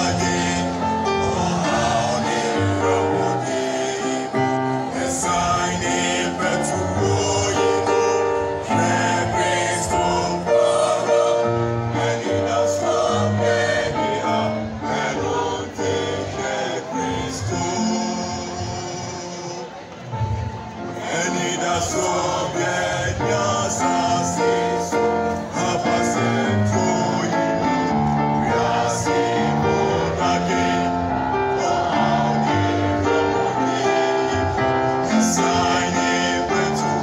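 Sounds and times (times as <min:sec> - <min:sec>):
choir singing a hymn: 0:00.0 - 0:37.0.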